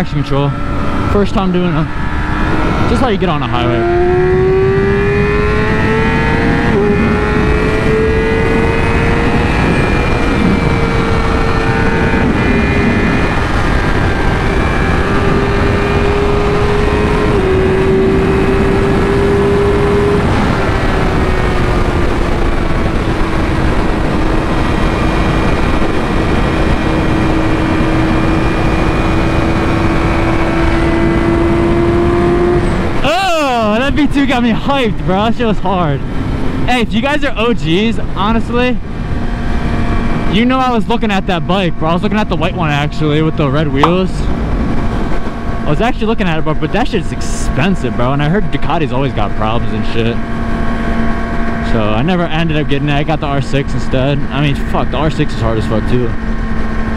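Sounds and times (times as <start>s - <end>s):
loud wind rush: 0.0s - 56.9s
motorcycle engine cruising: 0.0s - 56.9s.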